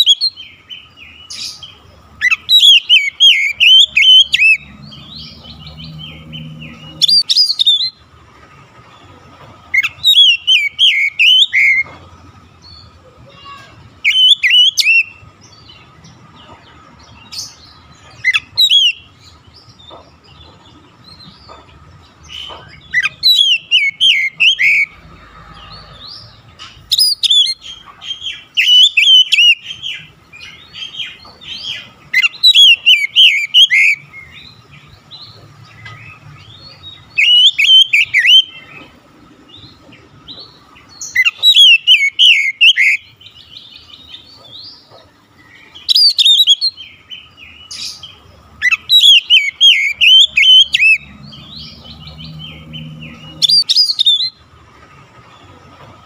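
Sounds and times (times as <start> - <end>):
bird singing warbled phrases: 0.0 - 55.8.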